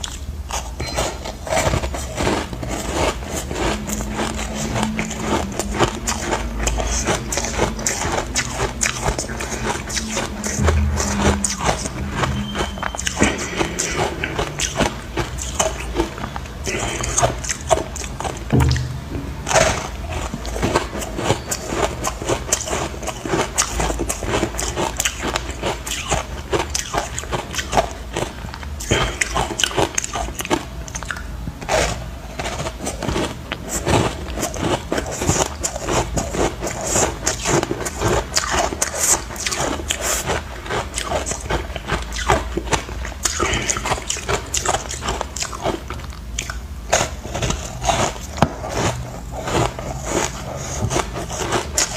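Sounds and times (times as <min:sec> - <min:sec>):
chewing crunchy ice: 0:00.0 - 0:51.9.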